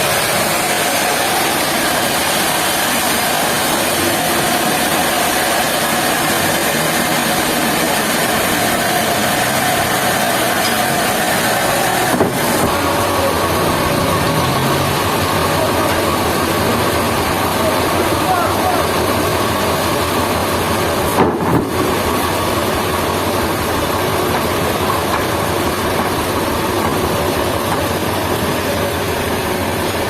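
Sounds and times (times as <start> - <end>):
sawmill machinery drone: 0.0 - 30.0.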